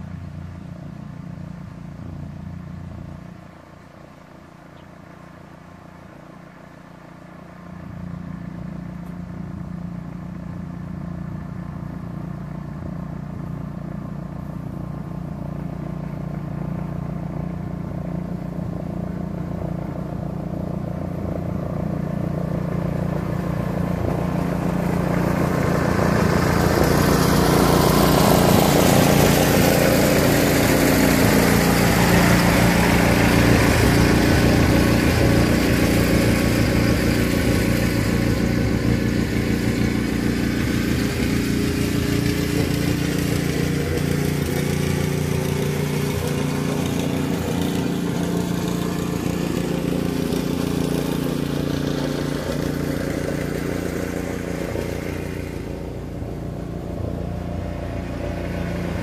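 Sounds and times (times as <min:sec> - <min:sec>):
small mower engine running: 0:00.0 - 0:59.0.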